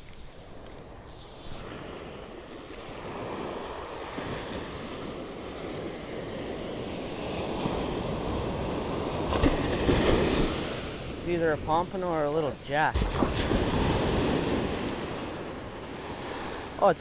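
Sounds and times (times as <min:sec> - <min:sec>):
surf washing over shore: 0:01.6 - 0:17.0
wave breaking: 0:01.6 - 0:17.0.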